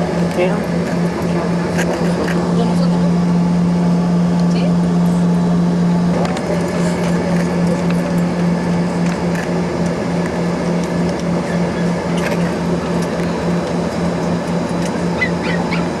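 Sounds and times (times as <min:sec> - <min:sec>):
jet cabin low hum: 0:00.0 - 0:16.0.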